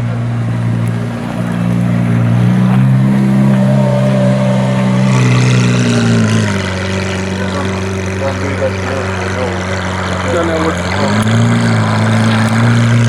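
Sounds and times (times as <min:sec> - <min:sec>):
sports car engine running: 0:00.0 - 0:13.0.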